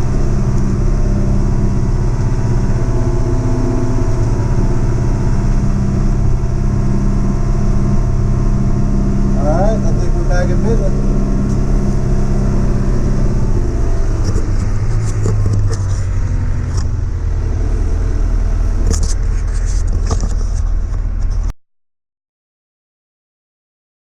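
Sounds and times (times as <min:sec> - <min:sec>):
diesel engine running: 0:00.0 - 0:21.5.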